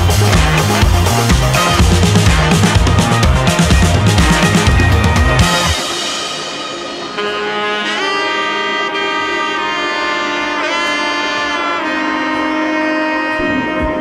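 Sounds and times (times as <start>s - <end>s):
melody of long held notes: 0.0s - 14.0s.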